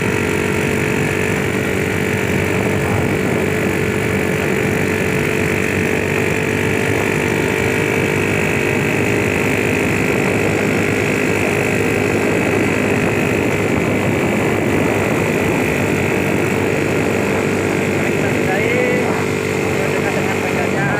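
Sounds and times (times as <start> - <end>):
small engine running steadily: 0.0 - 20.9.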